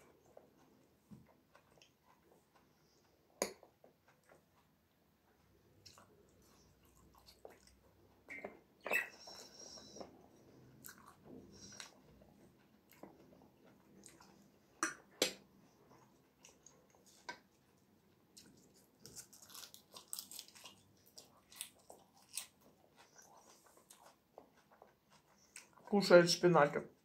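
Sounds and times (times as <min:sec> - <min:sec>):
chewing and crunching food: 0:00.0 - 0:27.0.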